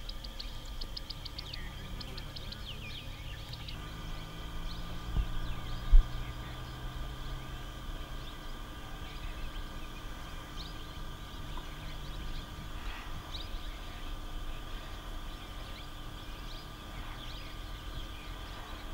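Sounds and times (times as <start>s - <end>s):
bird chirps: 0.0s - 18.9s
insects droning: 0.0s - 18.9s
low hum: 0.0s - 18.9s.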